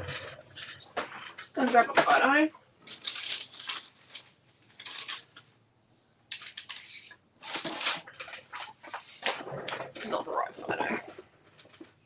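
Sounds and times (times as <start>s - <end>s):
paper and craft supplies rustling: 0.0s - 5.6s, 6.3s - 12.0s.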